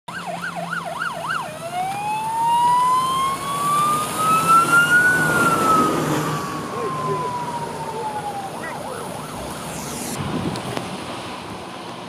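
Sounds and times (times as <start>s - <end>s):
emergency vehicle siren: 0.1s - 10.3s.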